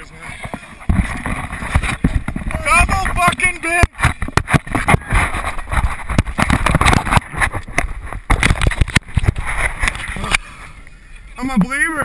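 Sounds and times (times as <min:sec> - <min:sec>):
camera rubbing against jacket: 0:00.0 - 0:10.8.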